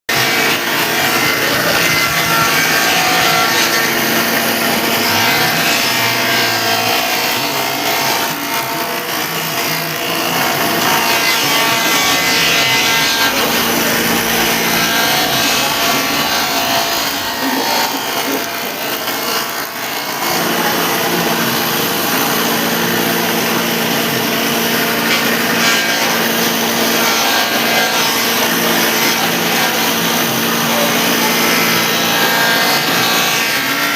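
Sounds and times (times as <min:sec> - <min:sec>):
electric wood planer: 0:00.1 - 0:33.9.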